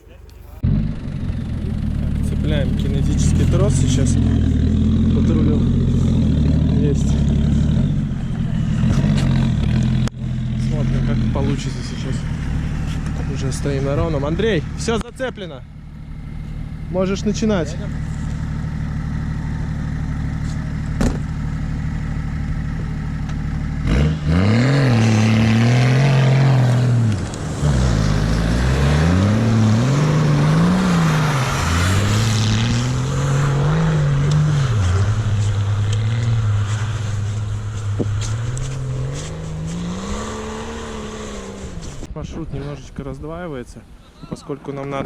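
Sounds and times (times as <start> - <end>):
off-road engine revving: 0.0 - 42.1.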